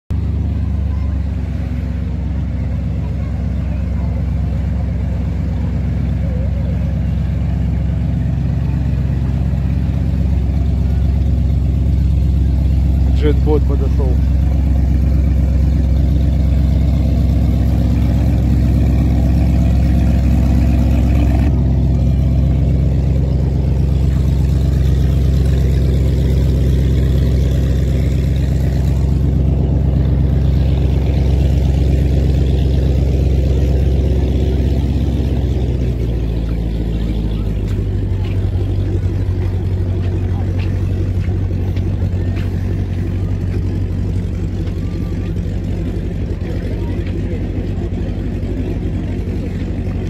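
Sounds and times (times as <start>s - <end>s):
boat engine droning: 0.1s - 50.0s.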